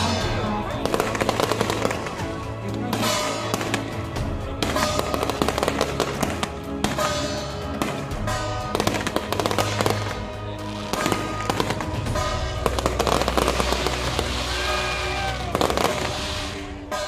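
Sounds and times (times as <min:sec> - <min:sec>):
fireworks crackling and popping: 0:00.0 - 0:17.0
music with held notes: 0:00.0 - 0:17.0.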